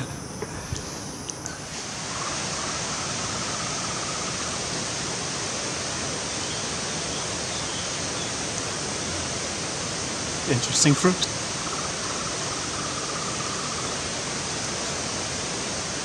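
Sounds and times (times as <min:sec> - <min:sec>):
falling water rushing: 0:00.0 - 0:16.0.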